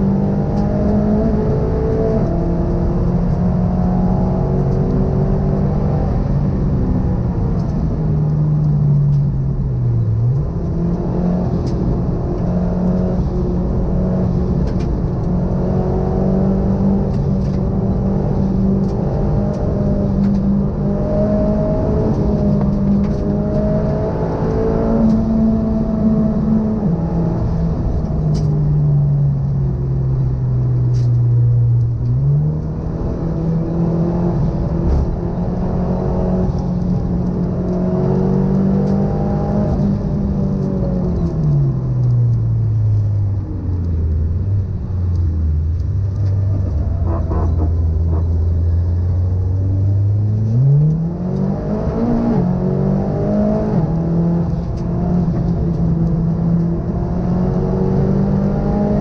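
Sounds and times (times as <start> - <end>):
turbocharged car engine: 0.0 - 59.0.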